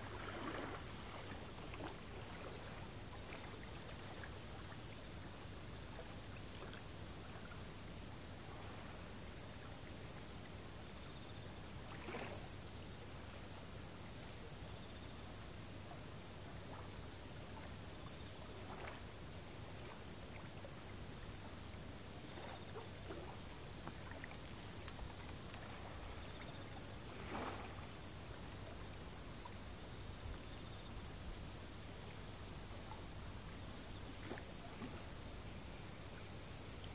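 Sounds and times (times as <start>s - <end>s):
river water hiss: 0.0s - 36.9s.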